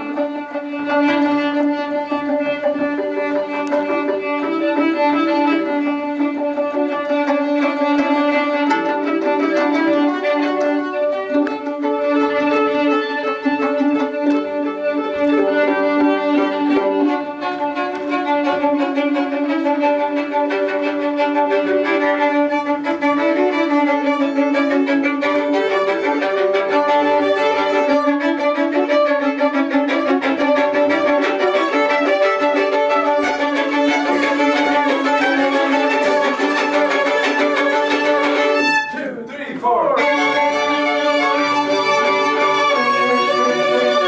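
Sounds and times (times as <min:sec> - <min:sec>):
two violins playing: 0:00.0 - 0:44.0.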